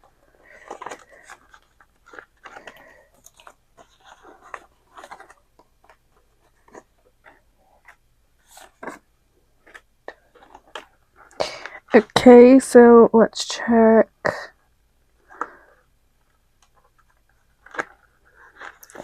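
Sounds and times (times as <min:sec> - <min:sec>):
paper crinkling and rustling: 0:00.2 - 0:12.2, 0:15.2 - 0:19.0.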